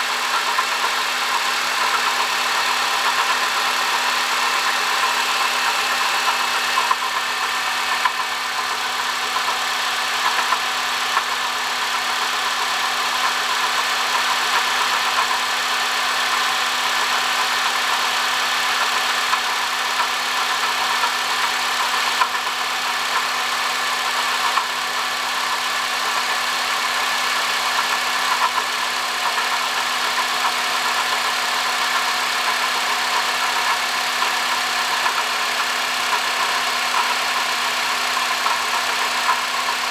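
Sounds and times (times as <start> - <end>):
car engine idling: 0.0 - 39.9
water pump whirring with ticks: 0.0 - 39.9.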